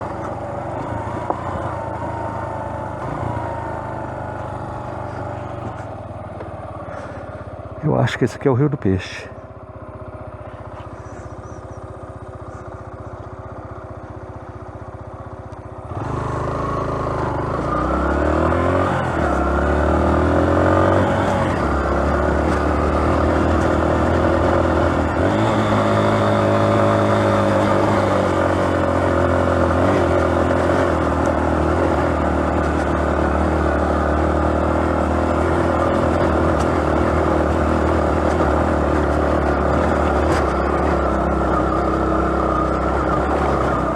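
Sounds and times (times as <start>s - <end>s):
motorcycle engine revving: 0.0s - 8.3s, 9.0s - 43.9s.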